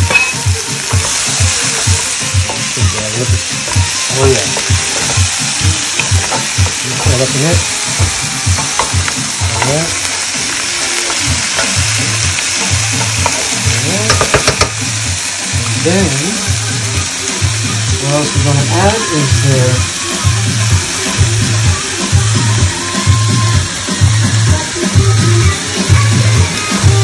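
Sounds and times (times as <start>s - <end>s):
meat and vegetables sizzling in pot: 0.0s - 27.0s.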